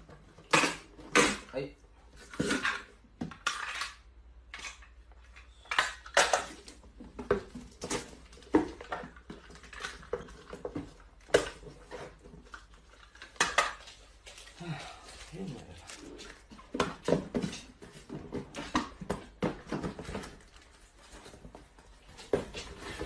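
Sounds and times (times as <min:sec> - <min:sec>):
hard objects clattering: 0:02.1 - 0:23.0.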